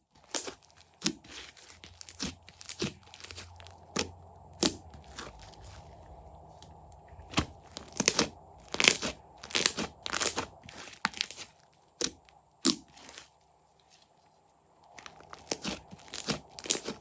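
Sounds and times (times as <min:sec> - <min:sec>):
slime squishing and tearing: 0:00.0 - 0:13.3, 0:14.9 - 0:17.0.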